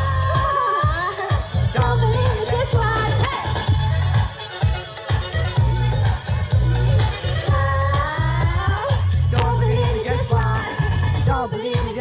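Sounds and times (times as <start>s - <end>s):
heavy bass beat: 0.0s - 12.0s
pop song over loudspeakers: 0.0s - 12.0s.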